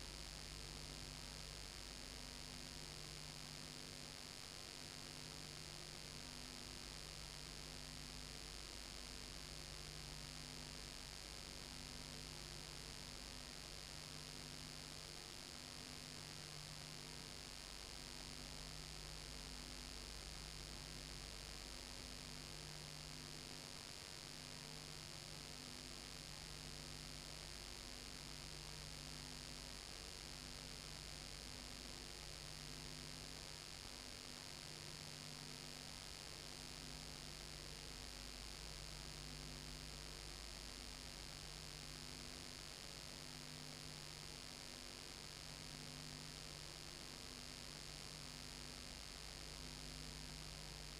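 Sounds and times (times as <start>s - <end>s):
faint electrical hum and hiss: 0.0s - 50.9s.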